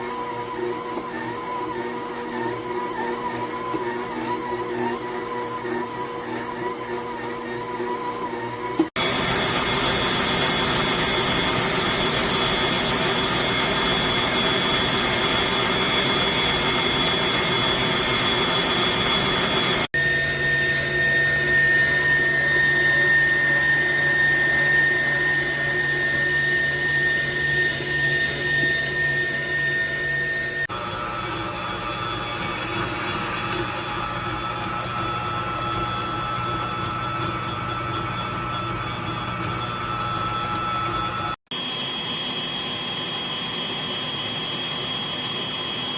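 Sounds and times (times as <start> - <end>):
stand mixer motor whining: 0.0 - 45.9.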